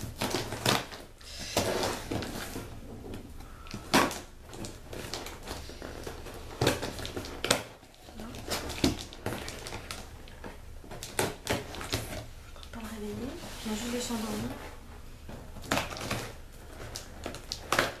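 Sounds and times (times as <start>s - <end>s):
cardboard and paper rustling: 0.0s - 18.0s.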